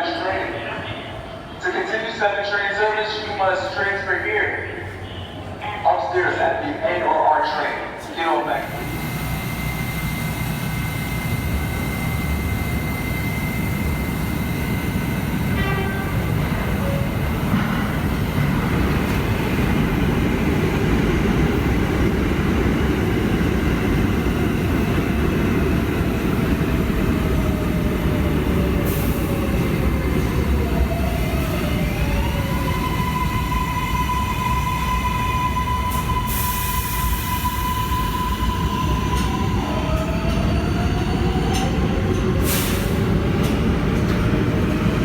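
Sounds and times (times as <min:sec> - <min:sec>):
subway train rumble and whine: 0:00.0 - 0:45.0.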